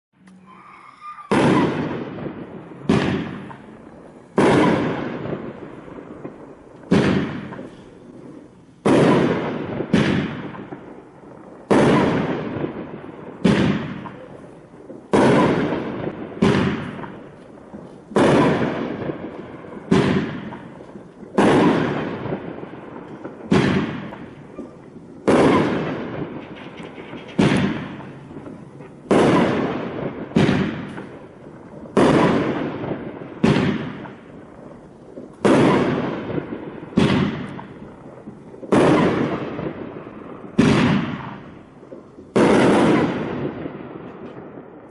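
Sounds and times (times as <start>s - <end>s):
fireworks booming: 0.2s - 44.9s
fireworks crackling: 0.2s - 44.9s.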